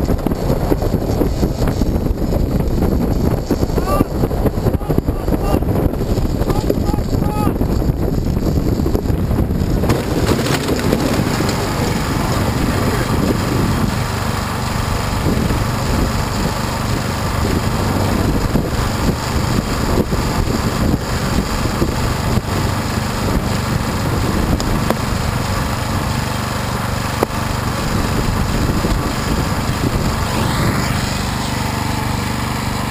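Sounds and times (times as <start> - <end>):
generator engine humming: 0.0 - 32.9
wind rumbling on microphone: 0.0 - 32.9.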